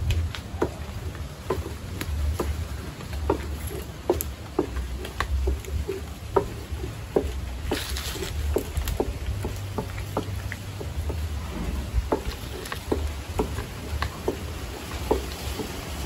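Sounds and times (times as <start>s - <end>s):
steady low rumble: 0.0s - 16.0s
cooking knocks and taps: 0.6s - 11.2s, 12.0s - 15.8s.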